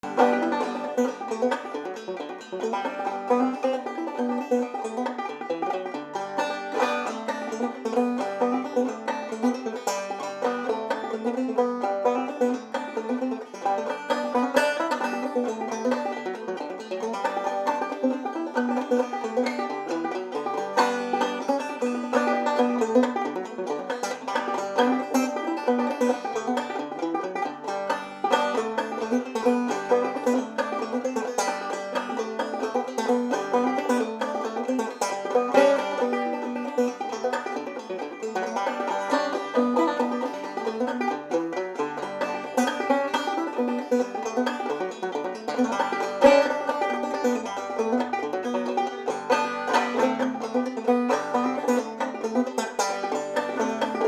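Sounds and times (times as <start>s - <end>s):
banjo playing: 0.0s - 54.0s.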